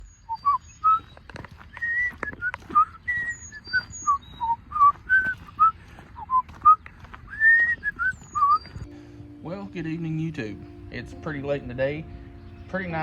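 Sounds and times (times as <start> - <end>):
whistled tune: 0.1 - 1.2, 1.8 - 13.0.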